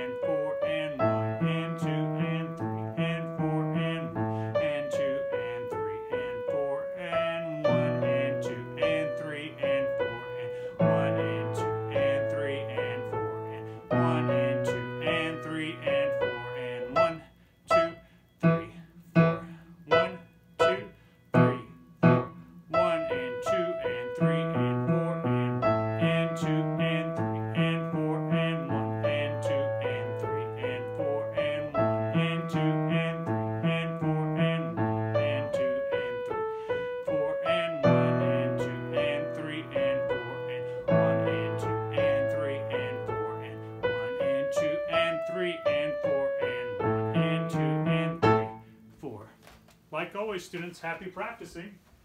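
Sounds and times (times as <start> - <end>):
grand piano playing: 0.0 - 48.7.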